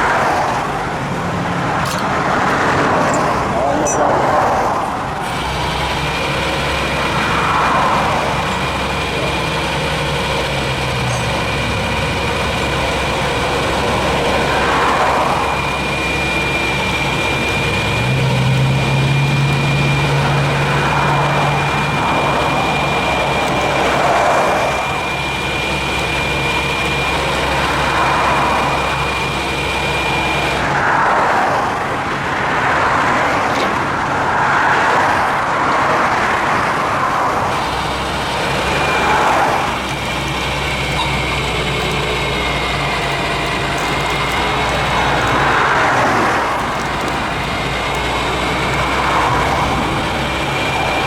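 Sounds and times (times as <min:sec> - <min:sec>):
highway traffic passing: 0:00.0 - 0:51.0
thin steady whine: 0:00.0 - 0:51.0
truck engine running: 0:00.0 - 0:51.0.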